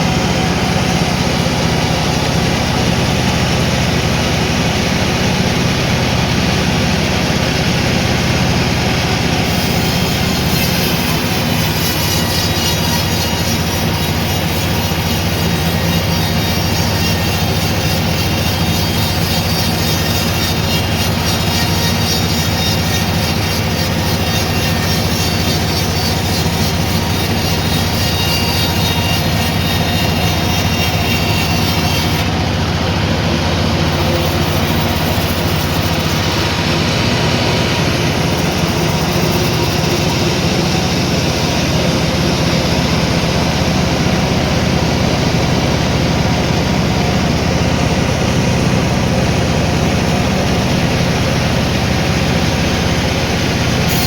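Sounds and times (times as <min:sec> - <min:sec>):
sawmill motor hum: 0:00.0 - 0:54.0.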